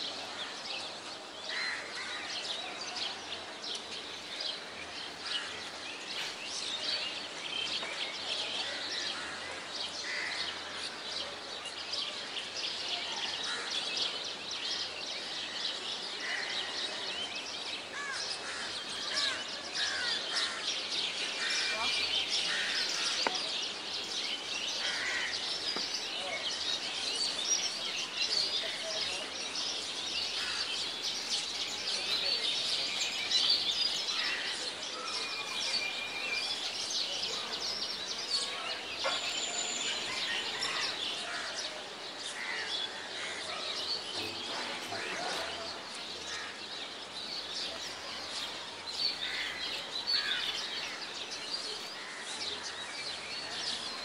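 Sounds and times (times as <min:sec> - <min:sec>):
small birds chirping: 0:10.0 - 0:54.0.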